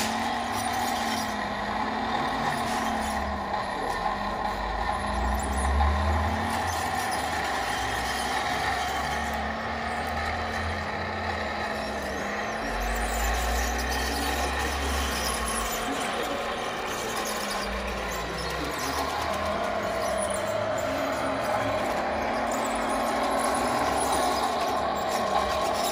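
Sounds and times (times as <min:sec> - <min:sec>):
radio-controlled truck engine noise: 0:00.0 - 0:25.9.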